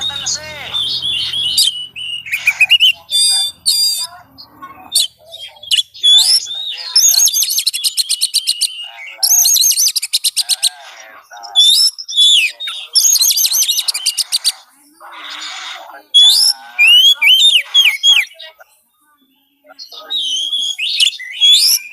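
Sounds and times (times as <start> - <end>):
magpie-robin singing: 0.0 - 21.9.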